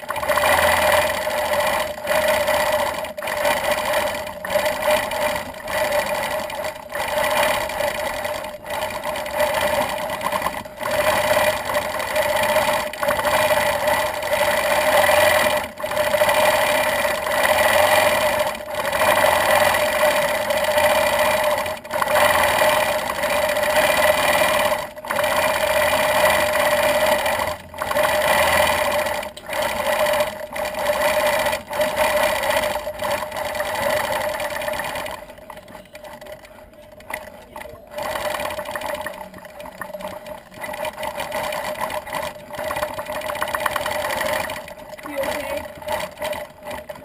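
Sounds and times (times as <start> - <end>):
quilting machine humming: 0.0 - 47.0.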